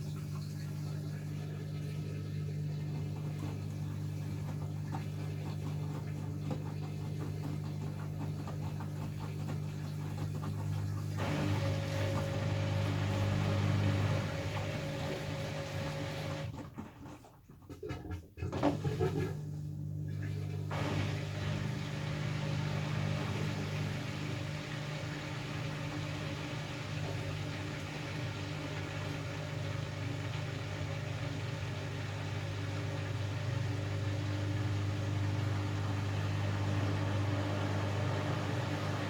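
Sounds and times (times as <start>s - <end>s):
washing machine motor hum: 0.0s - 39.0s.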